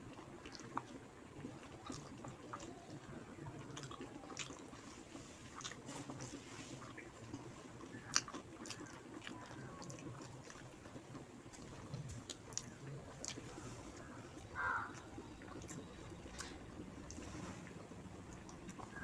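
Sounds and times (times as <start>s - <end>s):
person chewing food: 0.1s - 19.0s.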